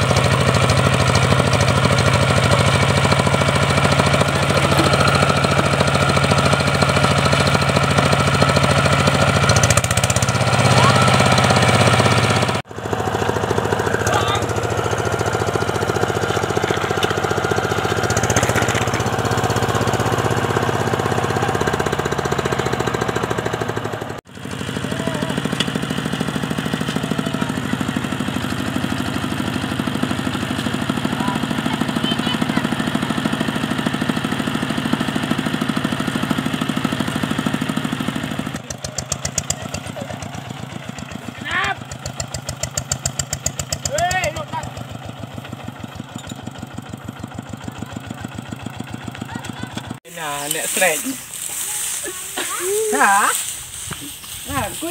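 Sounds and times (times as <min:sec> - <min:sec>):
single-cylinder diesel engine running: 0:00.0 - 0:54.9.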